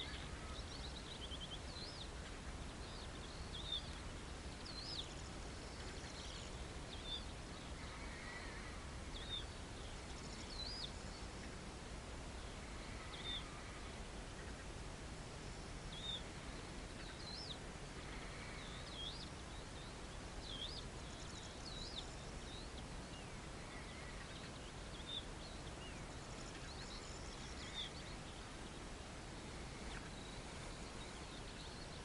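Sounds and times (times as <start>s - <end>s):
low background rumble: 0.0s - 32.0s
songbirds chirping and singing: 0.0s - 32.0s.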